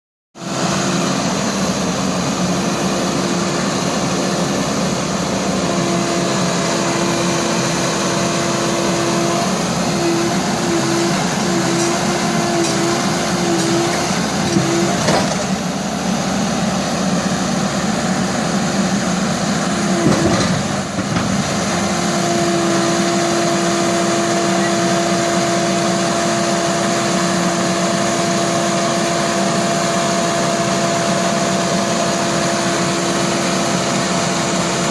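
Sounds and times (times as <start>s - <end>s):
excavator diesel engine running: 0.4s - 34.9s.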